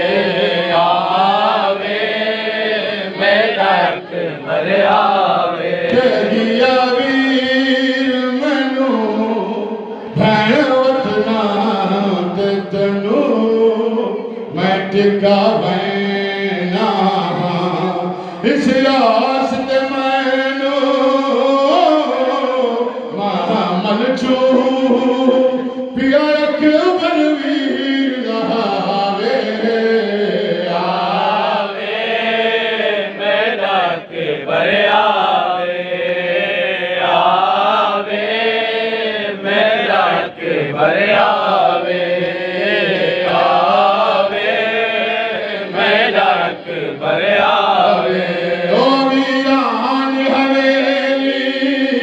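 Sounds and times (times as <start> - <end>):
voices chanting a lament: 0.0 - 52.0.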